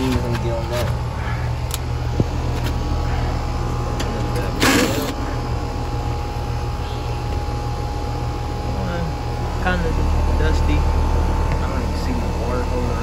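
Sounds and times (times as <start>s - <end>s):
air conditioner units humming: 0.0s - 13.0s.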